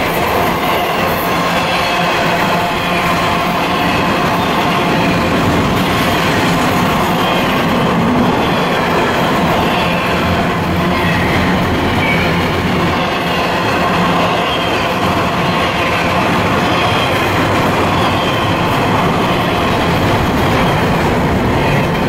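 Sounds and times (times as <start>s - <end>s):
freight train wheels rumbling on rails: 0.0s - 22.0s.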